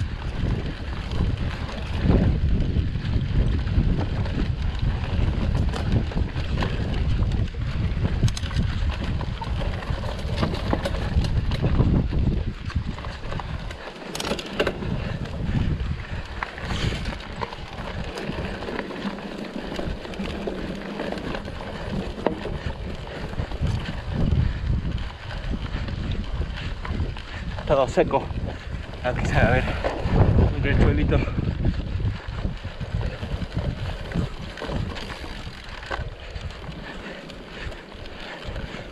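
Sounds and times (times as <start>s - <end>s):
bike clicks and rattles: 0.0s - 38.9s
wind buffeting microphone: 0.0s - 38.9s.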